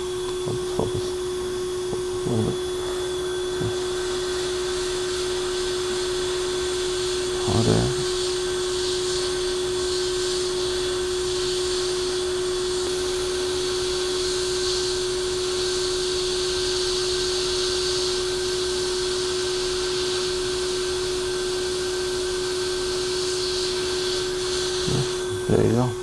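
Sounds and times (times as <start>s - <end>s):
hot air station blowing: 0.0s - 26.0s.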